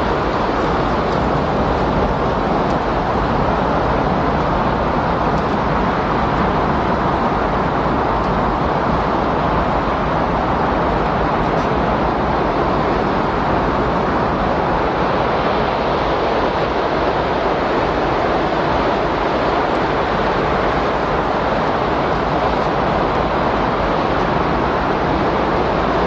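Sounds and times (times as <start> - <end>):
strong wind rushing: 0.0 - 26.0.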